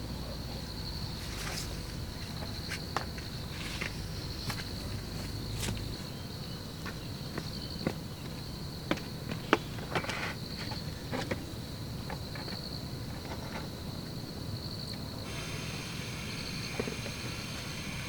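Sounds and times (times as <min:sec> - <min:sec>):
cricket trilling: 0:00.0 - 0:18.0.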